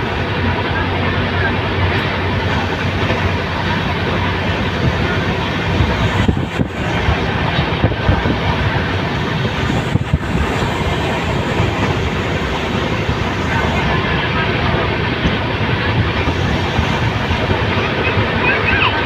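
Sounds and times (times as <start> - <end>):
rushing air: 0.0 - 19.0
vehicle interior rumble: 0.0 - 19.0.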